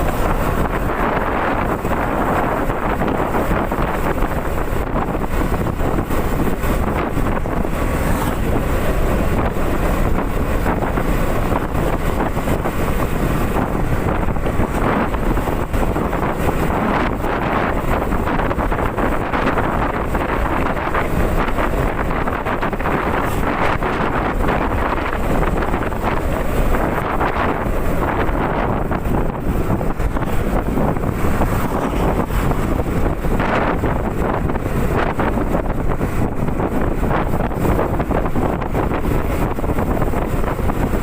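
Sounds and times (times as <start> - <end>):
motorcycle engine: 0.0 - 41.0
road noise: 0.0 - 41.0
wind rushing over microphone: 0.0 - 41.0.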